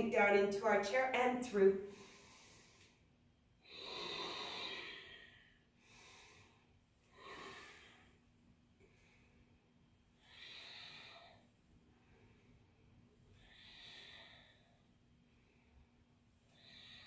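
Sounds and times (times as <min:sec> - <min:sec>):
woman breathing deeply: 0:01.8 - 0:17.0.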